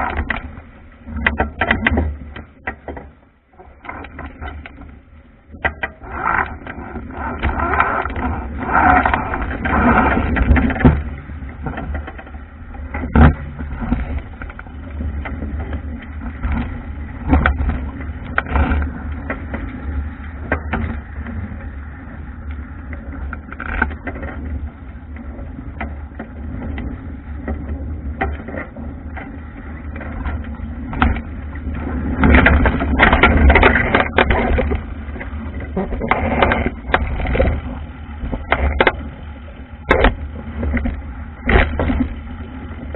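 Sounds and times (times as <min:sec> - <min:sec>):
water slapping against hull: 0:00.0 - 0:42.9.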